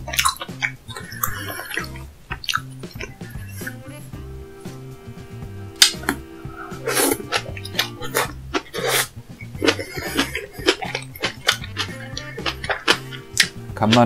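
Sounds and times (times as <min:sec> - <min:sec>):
wet chewing and smacking: 0:00.0 - 0:03.9, 0:05.8 - 0:14.0
soft background music: 0:00.0 - 0:14.0.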